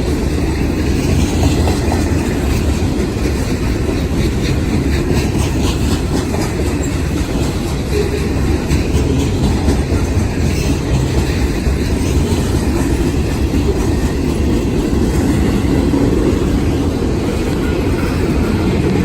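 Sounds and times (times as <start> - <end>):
train cars rumbling: 0.0 - 19.0
wheels clicking over rail joints: 0.0 - 19.0.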